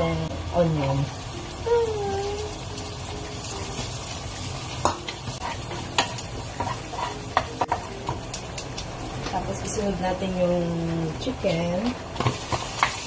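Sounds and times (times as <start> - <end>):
onion and garlic sizzling in pan: 0.0 - 13.0.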